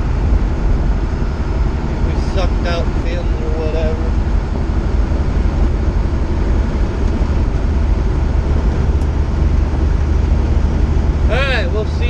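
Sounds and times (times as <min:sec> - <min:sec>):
diesel truck engine droning: 0:00.0 - 0:12.0
road noise in cab: 0:00.0 - 0:12.0.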